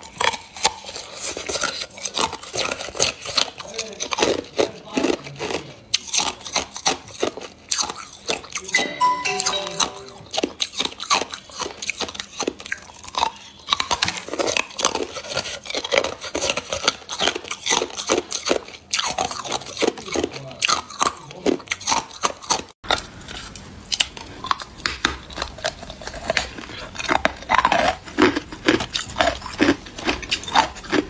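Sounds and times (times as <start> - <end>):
ice crunching between teeth: 0.0 - 8.8, 10.5 - 31.0.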